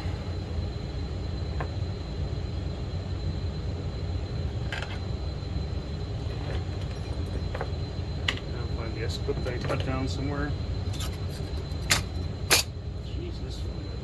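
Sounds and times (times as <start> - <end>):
faint high steady tone: 0.0 - 14.0.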